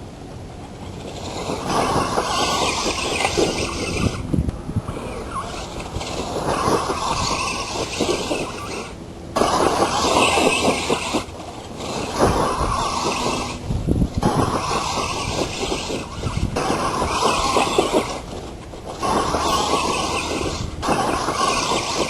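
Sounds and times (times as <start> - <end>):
rc truck motor and tyres crackling: 0.0 - 22.0.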